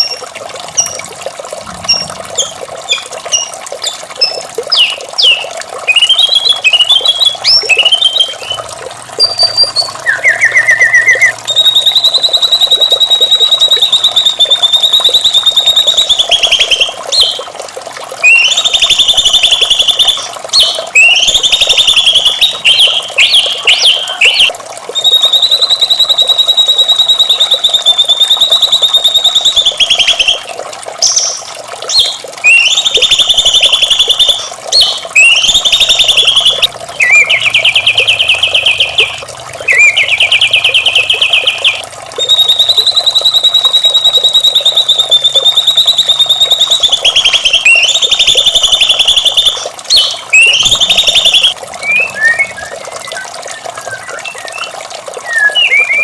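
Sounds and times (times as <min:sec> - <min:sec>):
running water: 0:00.0 - 0:56.0
bird singing trills: 0:01.8 - 0:17.4, 0:18.2 - 0:30.4, 0:31.0 - 0:56.0.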